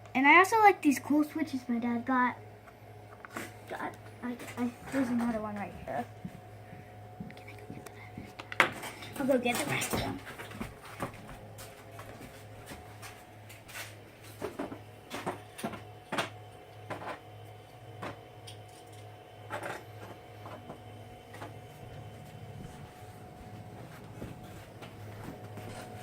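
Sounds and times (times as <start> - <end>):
low hum: 1.0 - 26.0.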